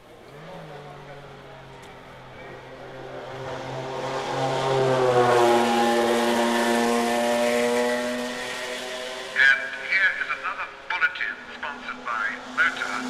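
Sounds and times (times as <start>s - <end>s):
racing car engine passing: 0.2s - 13.0s.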